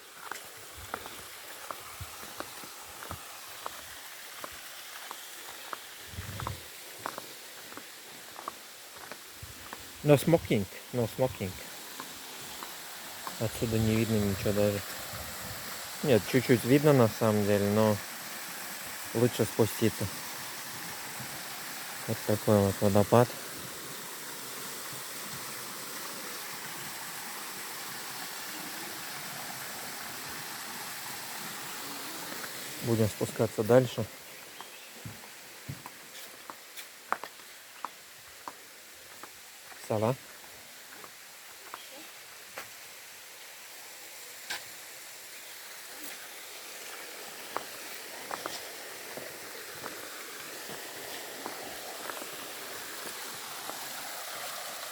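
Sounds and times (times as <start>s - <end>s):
small waterfall splashing: 0.0s - 54.9s.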